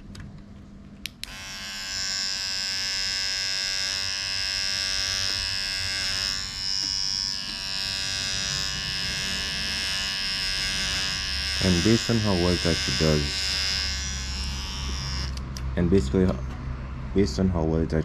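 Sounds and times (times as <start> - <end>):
electric hair trimmer buzzing: 1.1 - 15.6.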